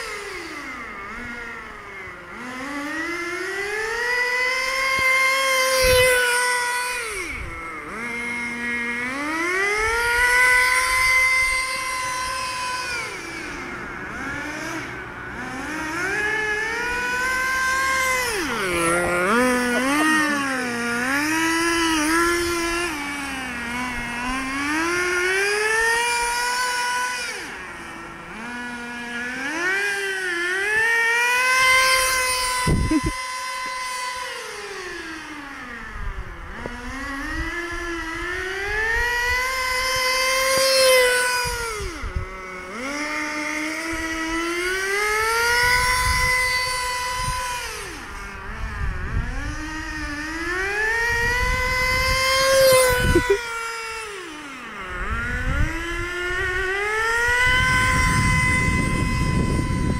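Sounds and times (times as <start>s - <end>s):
toy car motor whining: 0.0s - 59.9s.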